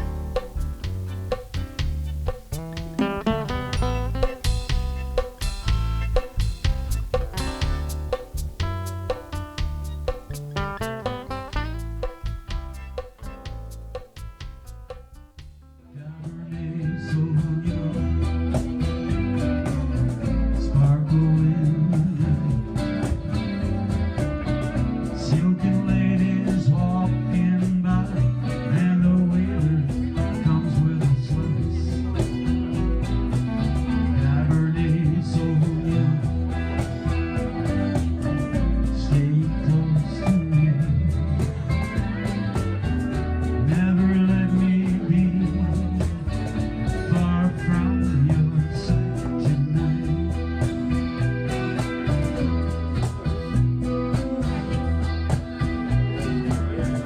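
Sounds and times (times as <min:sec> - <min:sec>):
band music with guitar: 0:00.0 - 0:57.0.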